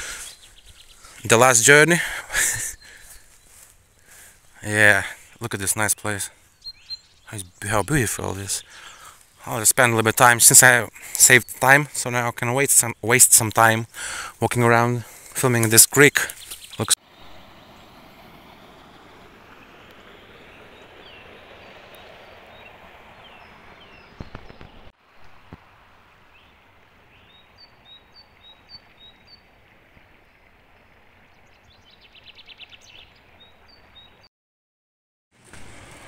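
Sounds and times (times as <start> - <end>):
small birds chirping: 0.0 - 24.9, 26.3 - 34.3
creek water rushing: 0.0 - 34.3, 35.4 - 36.0.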